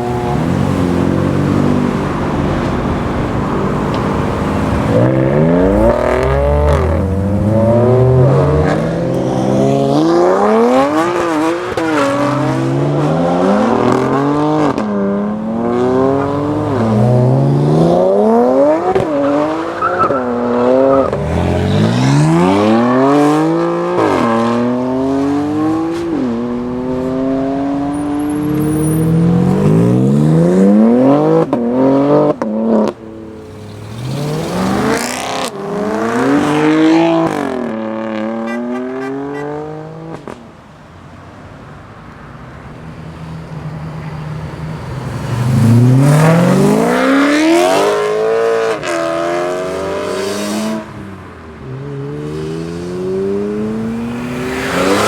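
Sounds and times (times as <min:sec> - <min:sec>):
cars accelerating hard: 0:00.0 - 0:40.5, 0:44.2 - 0:55.0.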